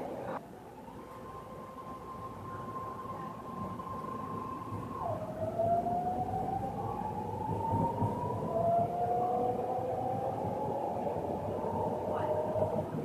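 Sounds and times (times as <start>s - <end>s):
train car rumble: 0.0s - 13.0s.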